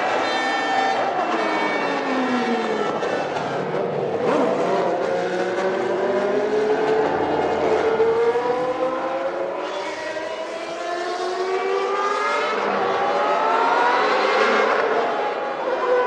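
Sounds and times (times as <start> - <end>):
race car engines at high revs: 0.0 - 16.0
race car passing: 0.0 - 16.0.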